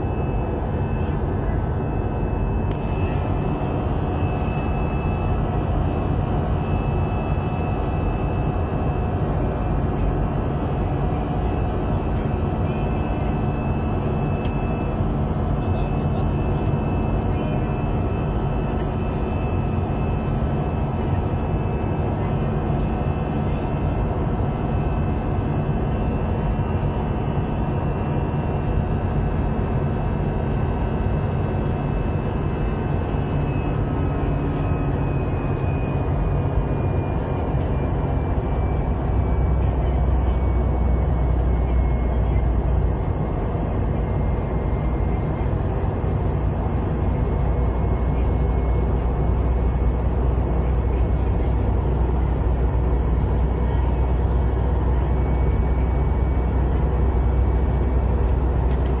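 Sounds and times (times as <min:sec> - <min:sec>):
faint high whine: 0:00.0 - 0:59.0
jet cabin engine drone: 0:00.0 - 0:59.0.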